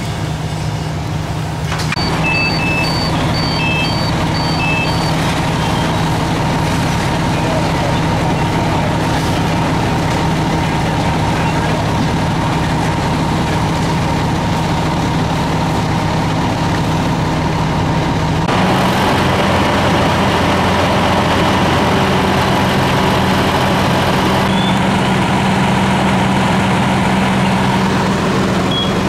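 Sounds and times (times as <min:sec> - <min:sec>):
heavy diesel engines idling: 0:00.0 - 0:29.0
loud engine close by: 0:00.0 - 0:29.0.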